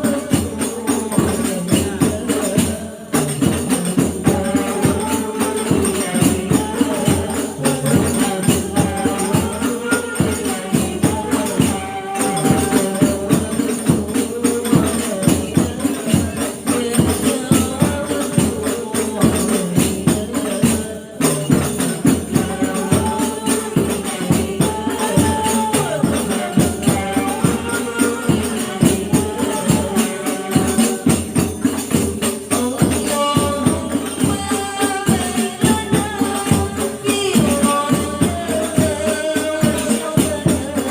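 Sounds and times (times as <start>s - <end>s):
frame drums beating: 0.0s - 40.9s
women singing together: 0.0s - 40.9s.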